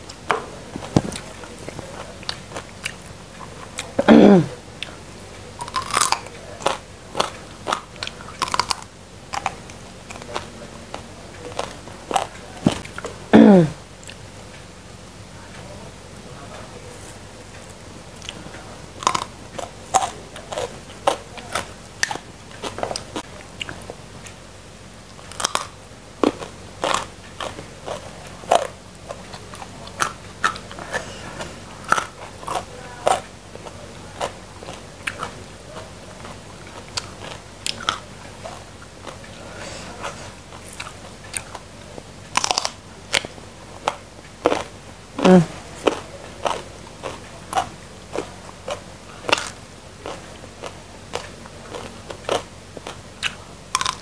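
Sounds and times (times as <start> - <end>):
crunching raw vegetables: 0.0 - 14.2, 18.2 - 24.0, 25.1 - 54.0.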